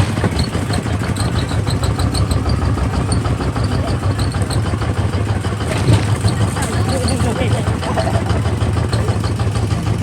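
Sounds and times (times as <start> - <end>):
diesel engine chugging: 0.0 - 10.0.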